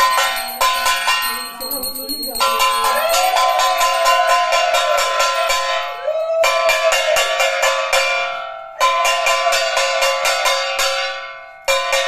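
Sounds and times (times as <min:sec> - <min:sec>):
brass bell rung rapidly: 0:00.0 - 0:12.0.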